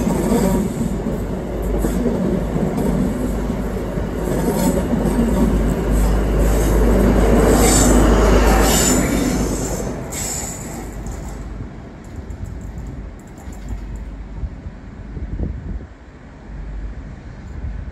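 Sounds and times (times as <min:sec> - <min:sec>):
train passing through station: 0:00.0 - 0:17.9.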